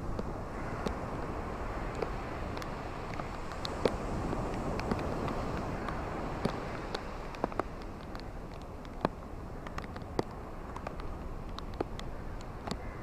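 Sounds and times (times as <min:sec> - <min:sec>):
ocean surf washing on shore: 0:00.0 - 0:13.0
sharp clicks and crackles: 0:01.9 - 0:12.9.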